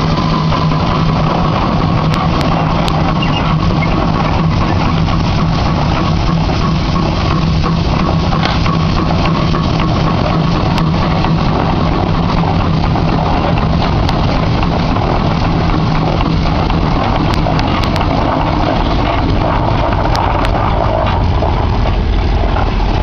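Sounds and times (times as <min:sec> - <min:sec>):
steady low hum: 0:00.0 - 0:23.0
steam traction engine running: 0:00.0 - 0:23.0.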